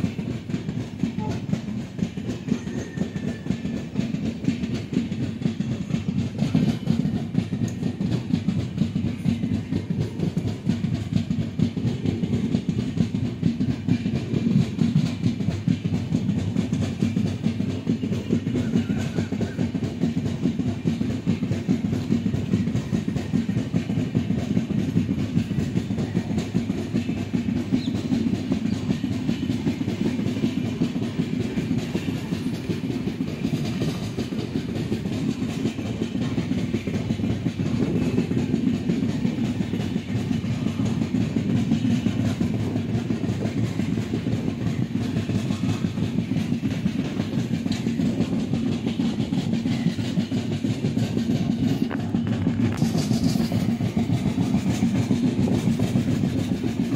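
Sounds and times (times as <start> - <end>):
train wheels rumbling and clattering: 0.0 - 56.9.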